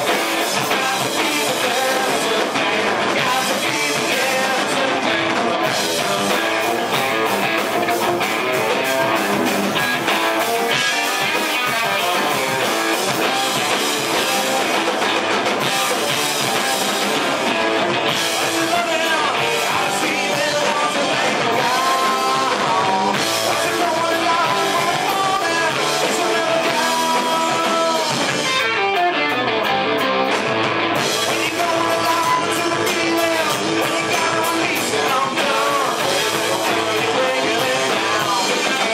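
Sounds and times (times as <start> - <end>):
person singing: 0.0 - 14.7, 15.7 - 30.0, 31.0 - 38.9
electric guitar: 0.0 - 38.9
rock band playing live: 0.0 - 38.9.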